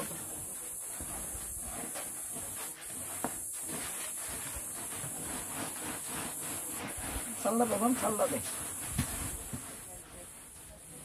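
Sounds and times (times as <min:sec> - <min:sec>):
grains rubbed on metal tray: 0:00.0 - 0:11.0.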